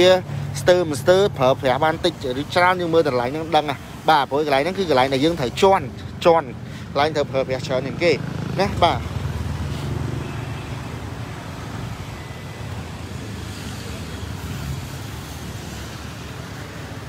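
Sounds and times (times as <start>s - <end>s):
low rumble of motor vehicles: 0.0s - 17.0s.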